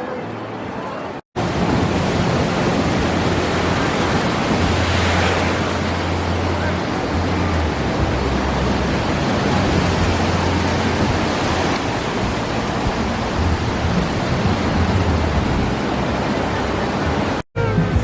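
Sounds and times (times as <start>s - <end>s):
ocean surf rushing: 1.0s - 17.5s
wind rumbling on microphone: 1.4s - 17.4s.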